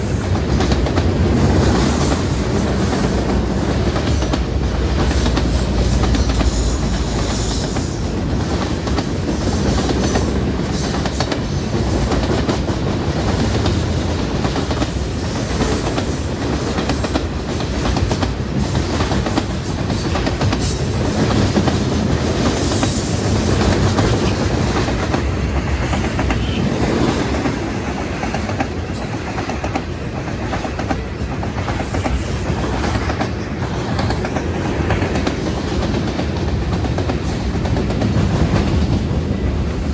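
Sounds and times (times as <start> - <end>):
train wheels clacking over rail joints: 0.0 - 39.2.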